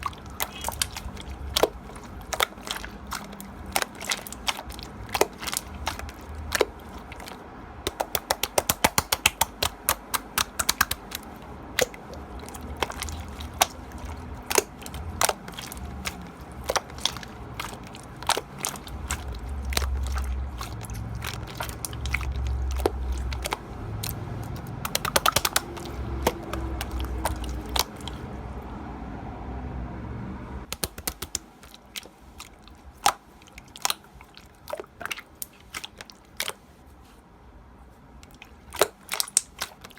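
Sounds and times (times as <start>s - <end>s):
slime crackling and popping: 0.0s - 28.2s, 30.7s - 34.2s, 38.3s - 39.9s.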